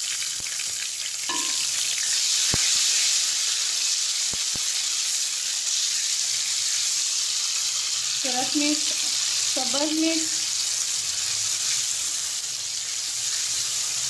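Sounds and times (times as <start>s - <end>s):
tomato sizzling in hot oil: 0.0s - 14.0s.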